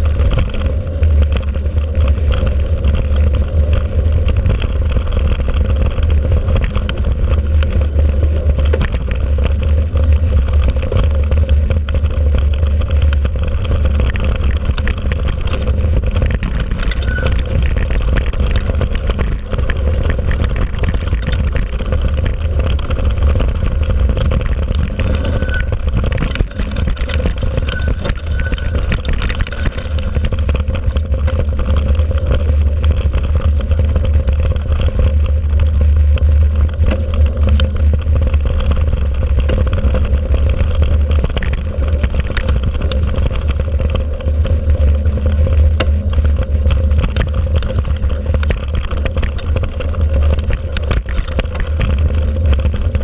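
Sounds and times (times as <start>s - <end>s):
deep trail rumble: 0.0s - 53.0s.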